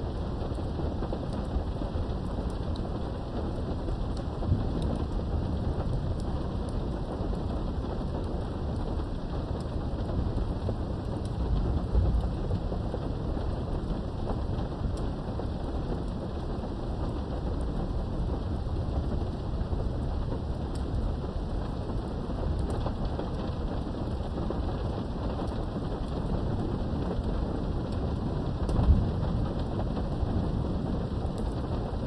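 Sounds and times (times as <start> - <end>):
low thunder rumble: 0.0 - 32.0
rain heard through a window: 0.0 - 32.0.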